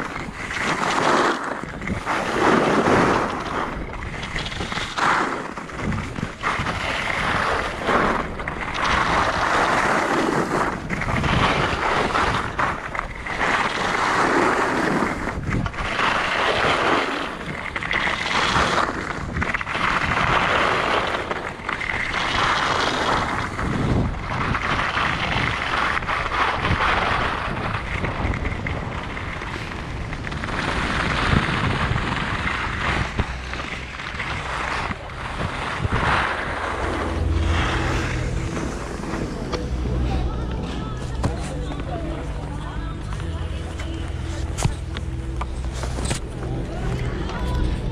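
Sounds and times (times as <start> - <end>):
skis scraping on snow: 0.0 - 47.9
wind rushing over microphone: 0.0 - 47.9.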